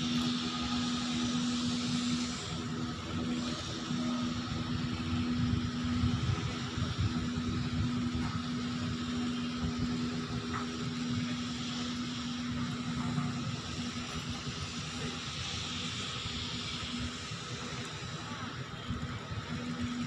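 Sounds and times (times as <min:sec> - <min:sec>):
heavy machinery humming: 0:00.0 - 0:20.0.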